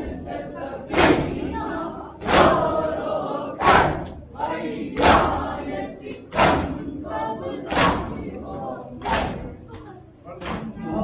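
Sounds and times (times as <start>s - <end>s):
men's chorus chanting: 0.0s - 9.6s
crowd beating chests in unison: 0.0s - 11.0s.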